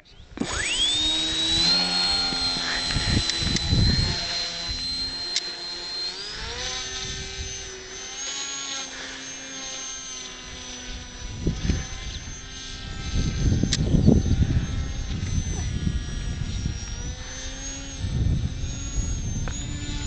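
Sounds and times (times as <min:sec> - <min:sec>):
electric motor propeller whine: 0:00.0 - 0:20.0
wind buffeting microphone: 0:00.2 - 0:08.1, 0:10.4 - 0:20.0.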